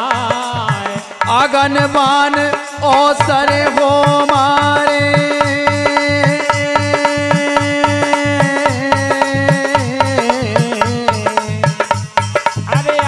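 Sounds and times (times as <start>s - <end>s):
fast drum beat: 0.0s - 13.0s.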